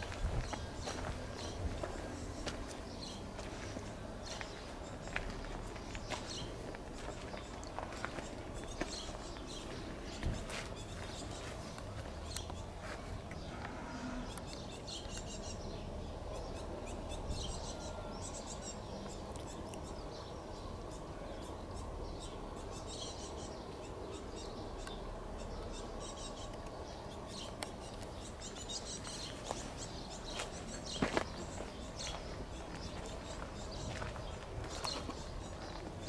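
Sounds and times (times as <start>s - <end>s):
birds chirping: 0.0s - 36.0s
low background noise: 0.0s - 36.0s.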